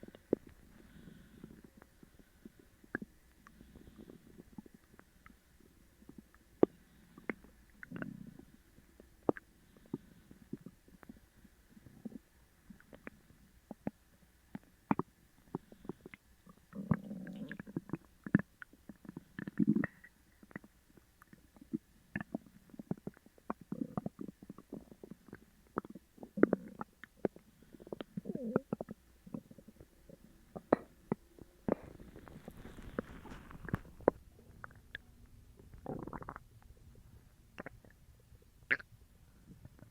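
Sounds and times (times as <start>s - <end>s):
stomach gurgling and rumbling: 0.0s - 39.9s.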